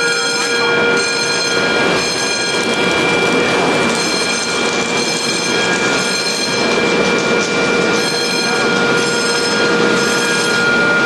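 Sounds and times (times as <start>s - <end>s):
steady high tones: 0.0s - 11.0s
loud steady rushing: 0.7s - 11.0s.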